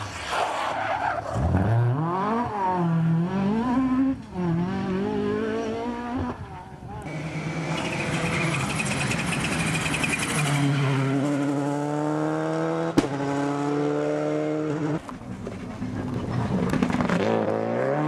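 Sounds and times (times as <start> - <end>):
another rally car engine: 1.3 - 18.0
rally car engine revving: 1.3 - 18.0.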